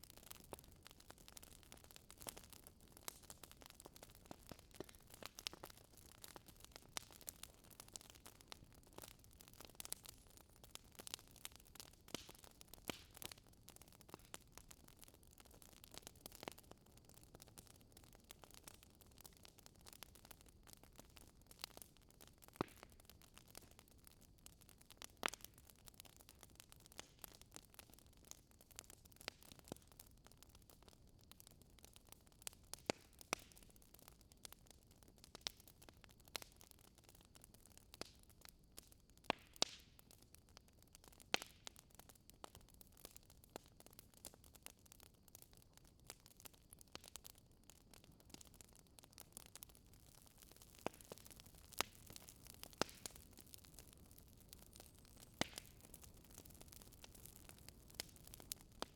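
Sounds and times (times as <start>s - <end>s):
fire crackling: 0.0s - 58.9s.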